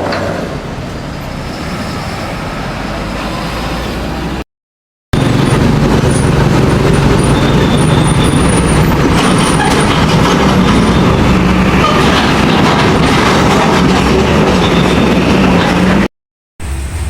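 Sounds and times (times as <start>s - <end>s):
heavy road traffic: 0.0s - 4.5s, 5.1s - 17.0s.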